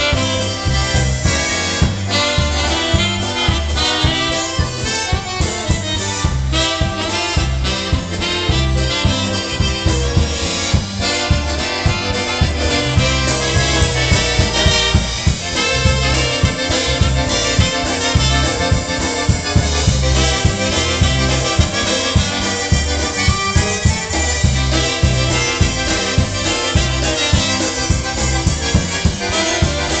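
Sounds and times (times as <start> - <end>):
accordion and concertina tune: 0.0 - 30.0
electric bass notes: 0.0 - 30.0.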